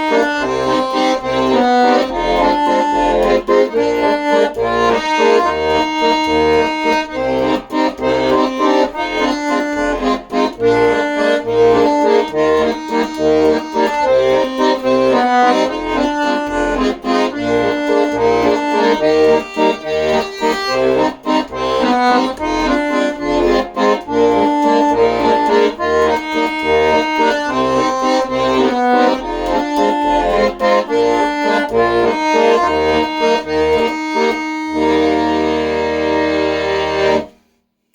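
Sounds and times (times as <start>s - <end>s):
accordion-like melody: 0.0s - 37.6s.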